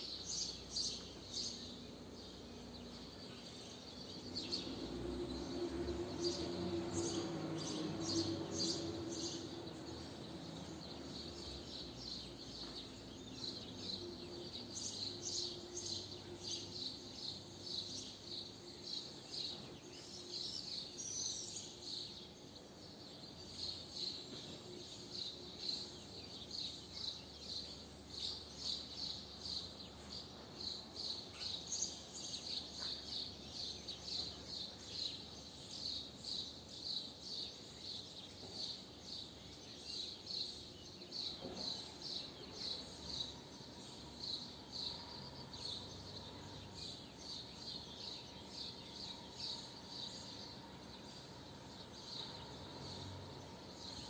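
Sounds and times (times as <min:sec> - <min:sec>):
faint outdoor background noise: 0:00.0 - 0:54.0.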